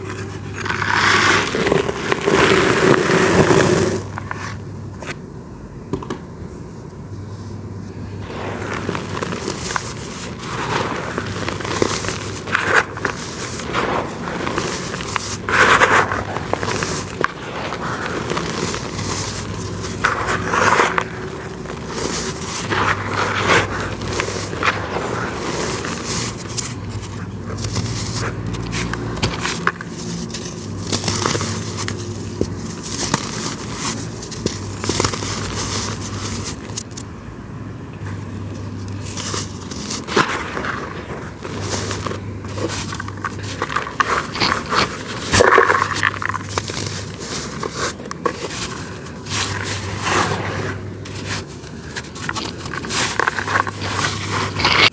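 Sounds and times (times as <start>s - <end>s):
dry material crumbling by hand: 0.0s - 4.4s, 8.2s - 37.0s, 38.7s - 54.9s.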